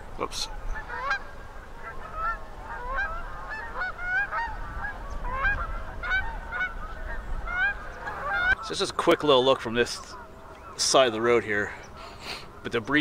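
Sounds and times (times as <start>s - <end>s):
low wind rumble: 0.0s - 12.9s
geese and swans honking: 0.1s - 13.0s.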